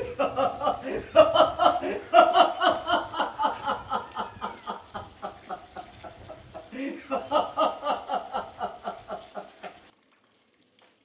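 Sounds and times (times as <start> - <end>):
person laughing: 0.0 - 9.7.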